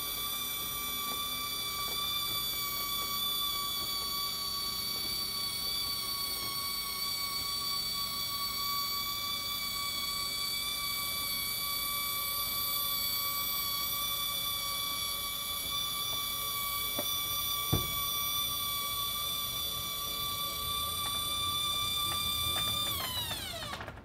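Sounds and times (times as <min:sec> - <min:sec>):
electric lift motor whine: 0:00.0 - 0:24.0.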